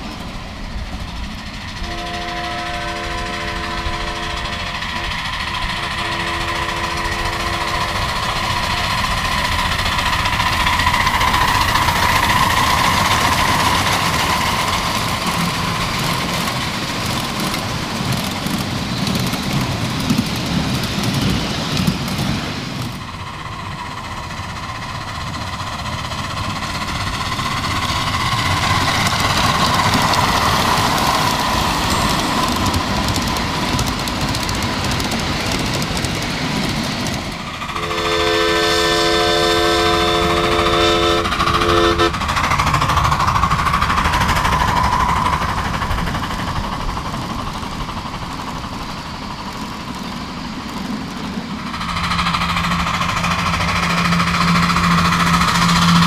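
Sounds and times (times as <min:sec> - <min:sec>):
miniature locomotive running by: 0:00.0 - 0:56.0.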